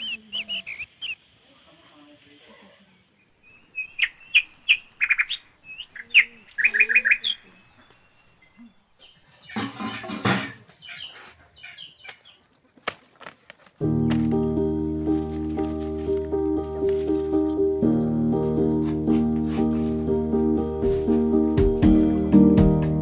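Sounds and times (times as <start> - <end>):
birds chirping: 0.0 - 21.4.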